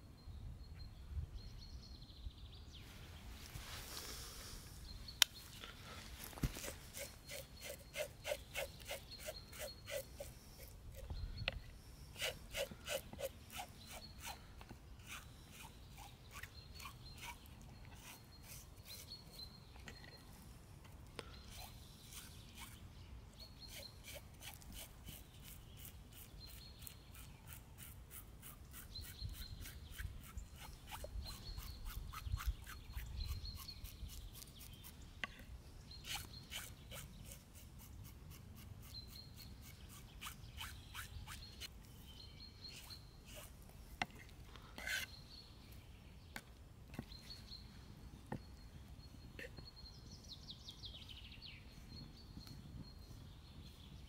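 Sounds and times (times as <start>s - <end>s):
small bird chirping: 4.8s - 20.4s, 21.2s - 54.0s.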